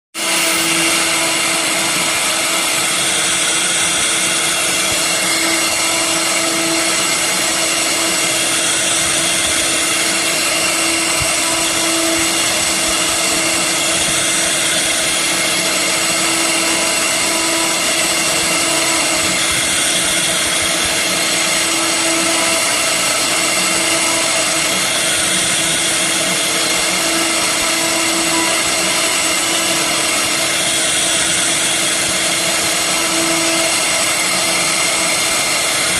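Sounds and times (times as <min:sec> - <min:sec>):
power tool whining carving wood: 0:00.2 - 0:35.9.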